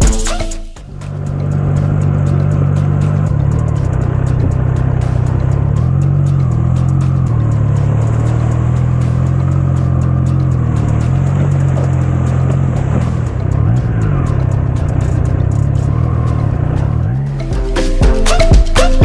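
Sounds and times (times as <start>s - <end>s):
motorcycle engine at low speed: 0.8s - 17.3s.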